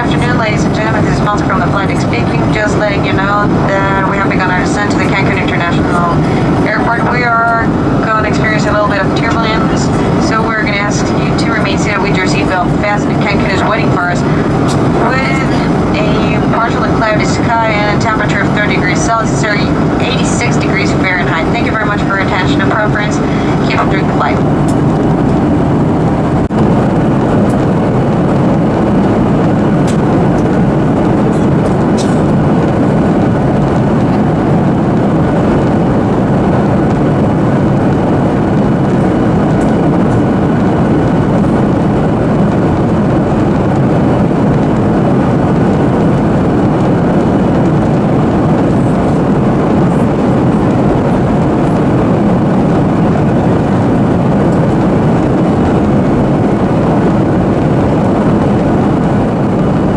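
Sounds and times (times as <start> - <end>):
airliner cabin noise: 0.0 - 59.9.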